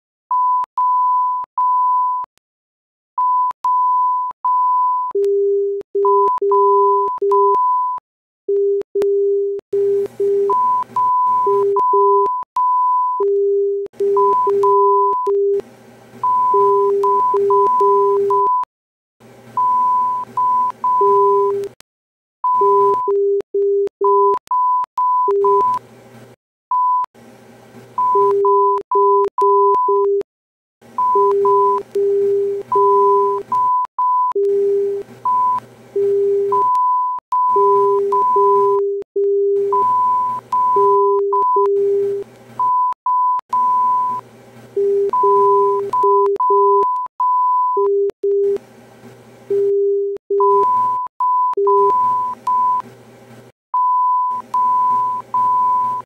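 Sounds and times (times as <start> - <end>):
morse code beeps: 3.2 - 15.4, 16.2 - 18.7, 19.6 - 21.8, 22.4 - 25.8, 28.0 - 30.2, 31.0 - 44.2, 44.8 - 48.6, 49.5 - 52.8, 53.7 - 56.0.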